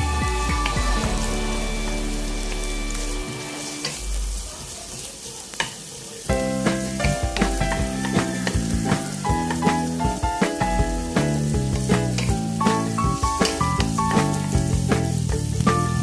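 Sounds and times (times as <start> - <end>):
background music: 0.0 - 4.4, 6.3 - 16.0
food sizzling in oil: 0.0 - 16.0.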